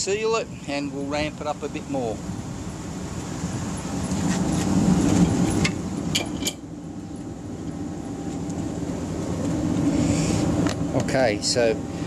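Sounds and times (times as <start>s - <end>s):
oil burner roaring: 0.0s - 12.0s.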